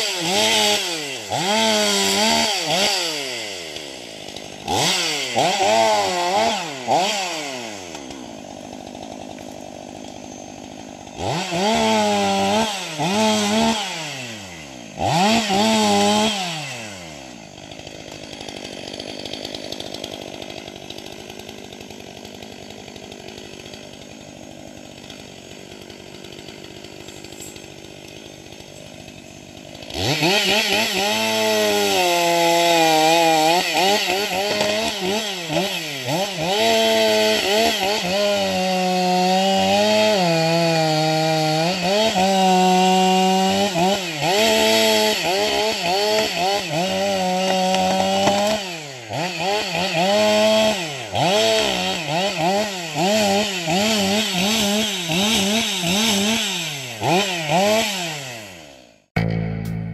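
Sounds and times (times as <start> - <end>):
chainsaw cutting through log: 0.0 - 59.4
chainsaw revving and idling: 0.0 - 59.4.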